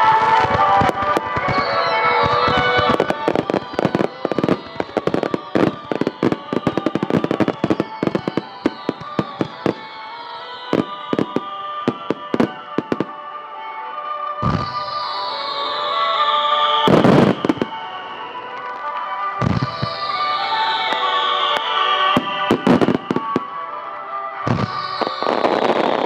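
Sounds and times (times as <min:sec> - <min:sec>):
background music: 0:00.0 - 0:26.0
fireworks crackling and popping: 0:00.0 - 0:26.0.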